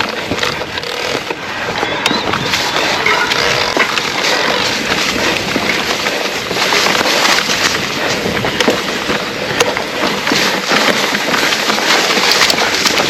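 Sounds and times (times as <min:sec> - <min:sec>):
bike knocks and rattles: 0:00.0 - 0:13.0
tyres brushing through bracken: 0:00.0 - 0:13.0.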